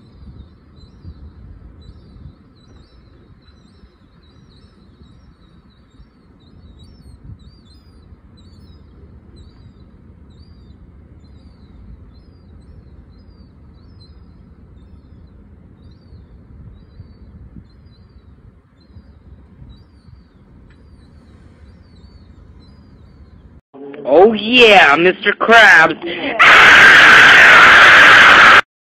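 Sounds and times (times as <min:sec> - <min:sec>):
juvenile gulls begging calls: 0:00.0 - 0:23.4
steady low rumble: 0:00.0 - 0:28.5.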